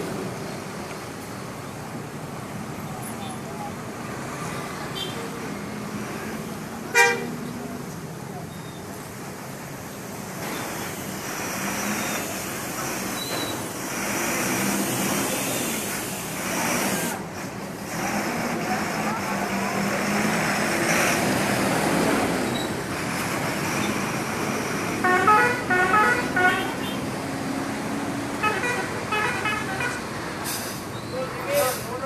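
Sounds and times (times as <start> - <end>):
heavy road traffic passing: 0.0 - 32.0.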